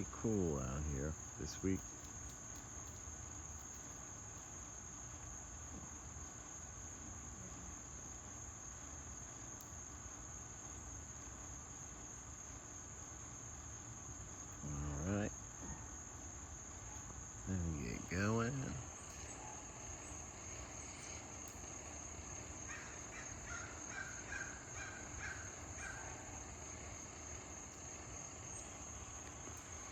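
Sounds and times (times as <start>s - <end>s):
insect chorus trilling: 0.0s - 29.9s.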